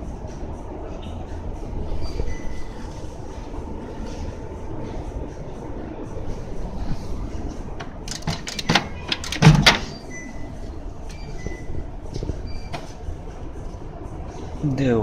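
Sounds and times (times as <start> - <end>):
shop background din: 0.0 - 15.0.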